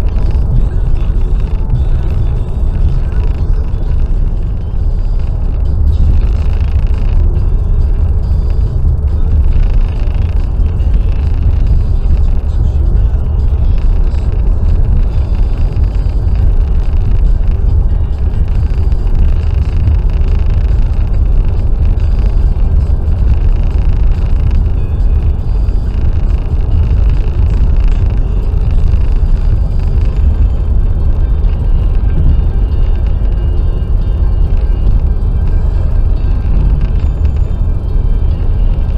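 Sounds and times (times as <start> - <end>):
car driving at motorway speed: 0.0 - 38.9.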